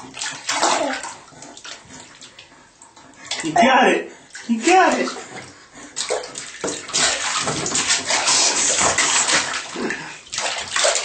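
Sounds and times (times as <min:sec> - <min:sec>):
baby splashing bathwater: 0:00.0 - 0:11.0.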